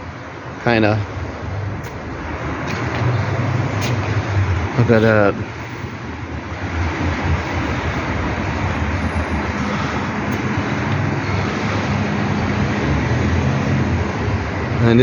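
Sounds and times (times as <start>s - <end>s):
low engine drone: 0.0s - 15.0s
road traffic noise: 0.0s - 15.0s.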